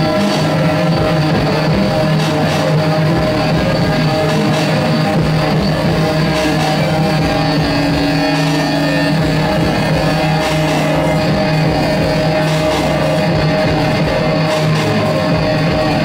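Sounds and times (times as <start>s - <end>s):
loud live music: 0.0s - 16.0s
steady droning tones: 0.0s - 16.0s.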